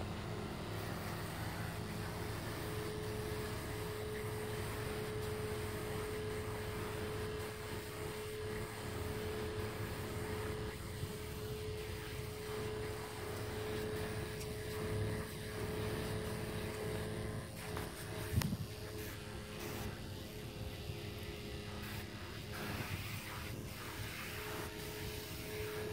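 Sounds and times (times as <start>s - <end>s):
sprayer pump droning: 0.0s - 25.9s.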